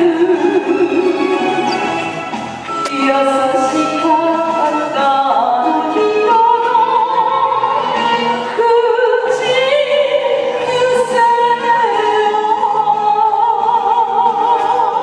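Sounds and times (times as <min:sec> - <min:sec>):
woman singing with vibrato: 0:00.0 - 0:02.0, 0:02.7 - 0:15.0
musical accompaniment: 0:00.0 - 0:15.0.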